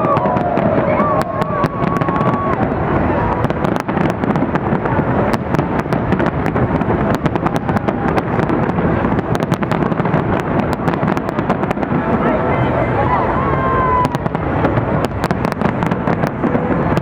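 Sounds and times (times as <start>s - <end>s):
fireworks booming: 0.0s - 17.0s
fireworks cracking: 0.0s - 17.0s.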